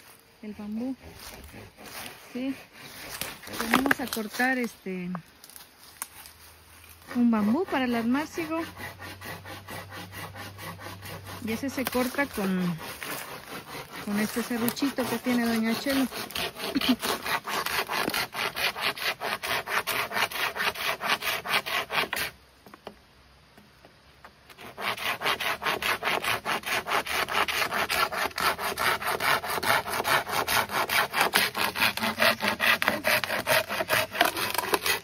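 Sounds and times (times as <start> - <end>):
hand saw cutting bamboo: 0.6 - 4.7, 7.0 - 22.4, 24.5 - 35.0.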